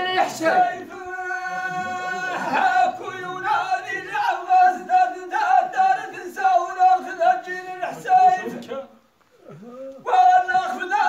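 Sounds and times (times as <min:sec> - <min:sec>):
men chanting together: 0:00.0 - 0:08.8, 0:10.0 - 0:11.0.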